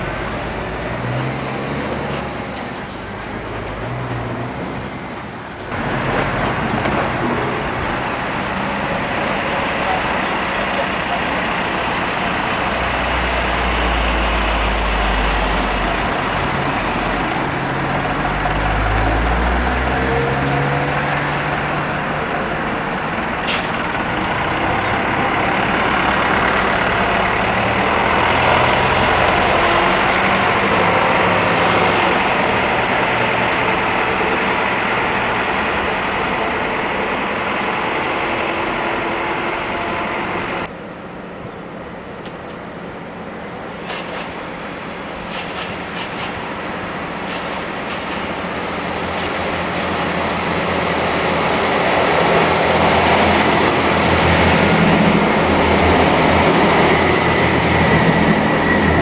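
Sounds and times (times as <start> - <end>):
road traffic: 0.0 - 59.0
diesel bus engine running: 4.8 - 40.8, 45.9 - 59.0.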